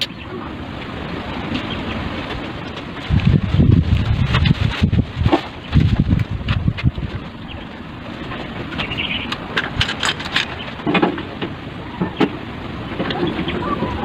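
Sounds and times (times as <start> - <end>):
background rumble and hiss: 0.0 - 14.0.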